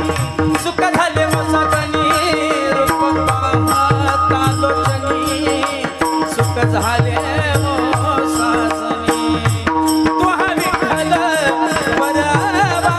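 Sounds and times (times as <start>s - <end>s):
man singing ornamented runs: 0.0s - 12.9s
sharp percussion strikes: 0.0s - 12.9s.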